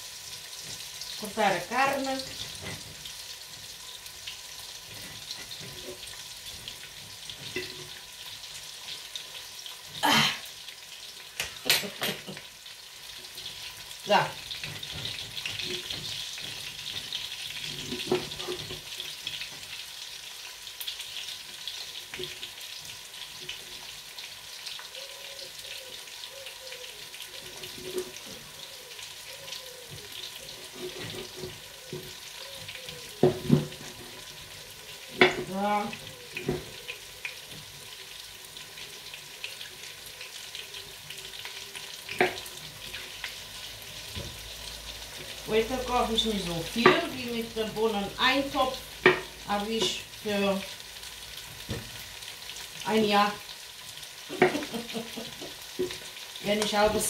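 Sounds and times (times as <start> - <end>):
meat sizzling in a pot: 0.0 - 57.0.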